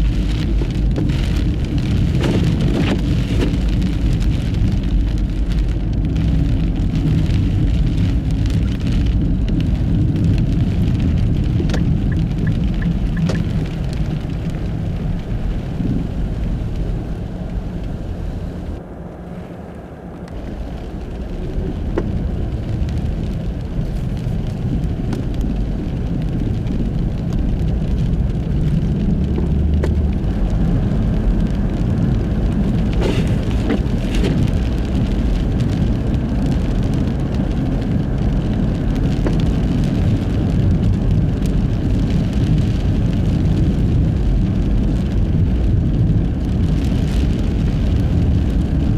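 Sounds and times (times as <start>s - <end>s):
car tyres rumbling on snow: 0.0s - 48.9s.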